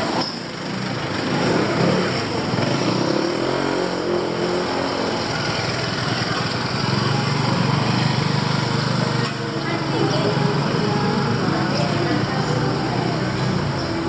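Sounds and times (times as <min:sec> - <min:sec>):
small motorcycle engines passing: 0:00.0 - 0:14.0
steady traffic hum: 0:00.0 - 0:14.0.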